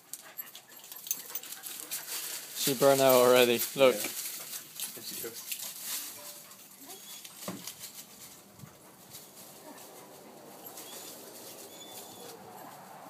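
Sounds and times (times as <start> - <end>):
dogs scuffling through dry leaves: 1.3 - 13.0.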